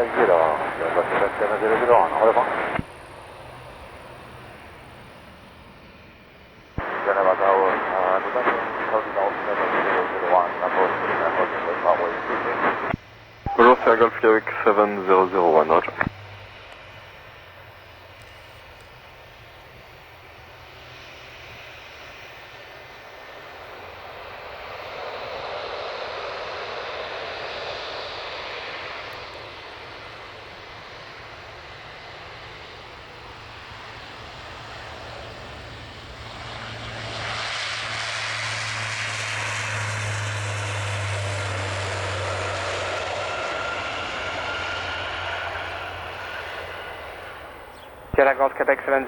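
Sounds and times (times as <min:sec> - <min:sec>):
jet airliner engines running: 0:00.0 - 0:49.0
steady low hum: 0:00.0 - 0:49.0.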